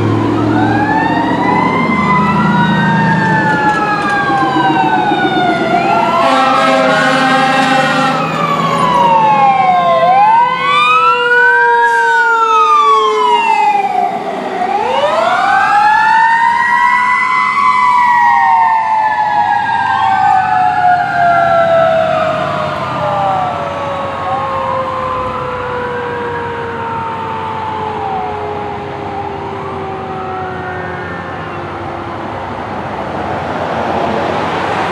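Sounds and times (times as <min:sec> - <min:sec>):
steady siren tone: 0:00.0 - 0:32.9
fire engine siren wailing: 0:00.0 - 0:34.9.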